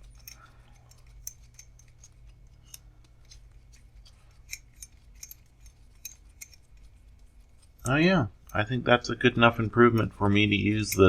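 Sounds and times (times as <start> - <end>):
vise metallic clicks and scrapes: 0.0 - 8.9.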